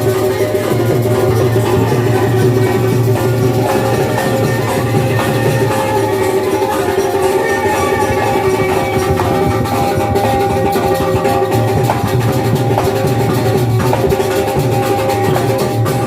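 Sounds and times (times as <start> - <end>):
drum strokes: 0.0 - 16.0
steady held notes: 0.0 - 16.0.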